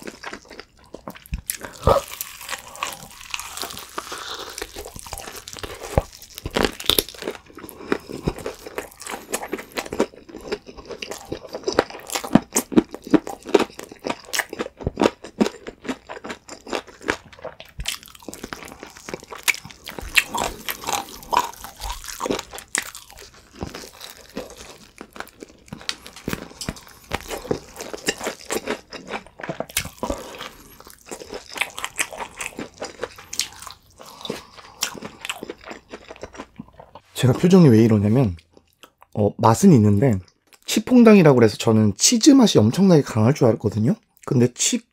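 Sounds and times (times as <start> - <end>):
crunching fried chicken: 0.0 - 37.0.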